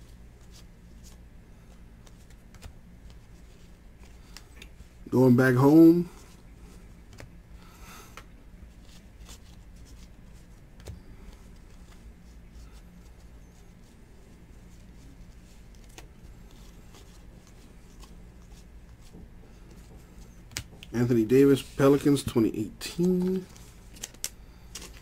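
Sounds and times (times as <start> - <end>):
low steady hum: 0.0 - 25.0
cards rustling: 0.4 - 4.9, 8.1 - 25.0.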